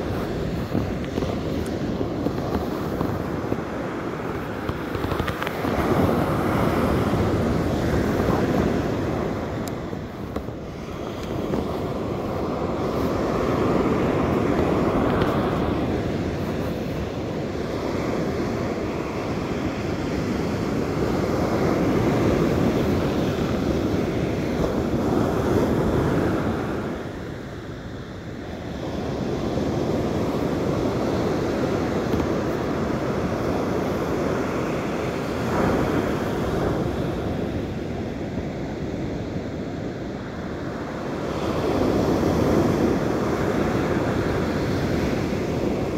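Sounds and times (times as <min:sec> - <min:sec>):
ocean surf breaking on beach: 0:00.0 - 0:45.9
wind buffeting microphone: 0:00.0 - 0:45.9.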